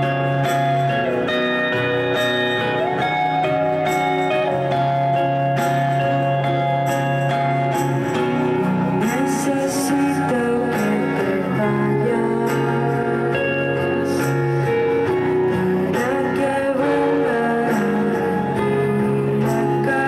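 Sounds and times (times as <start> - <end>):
acoustic guitar: 0.0 - 20.0
electric guitar: 0.0 - 20.0.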